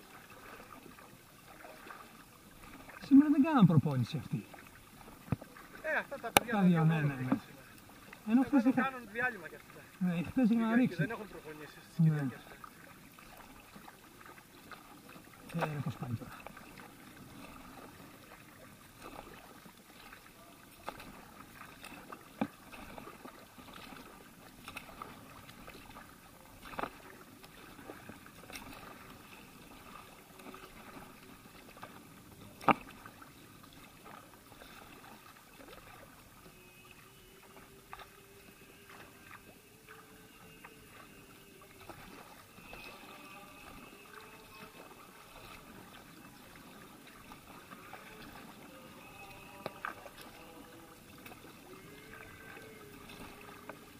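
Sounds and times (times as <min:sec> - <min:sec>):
faint steady tone: 0:00.0 - 0:53.9
paddle dipping into water: 0:00.0 - 0:53.9.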